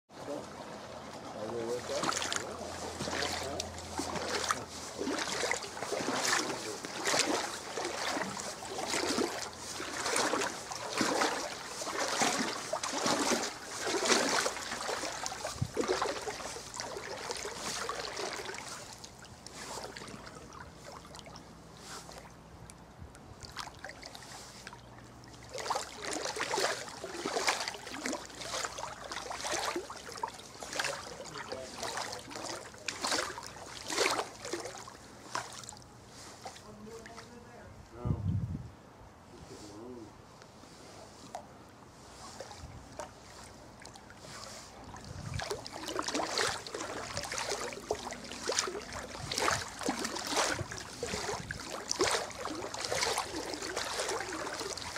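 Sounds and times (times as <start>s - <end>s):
wading through water: 0.1s - 54.9s.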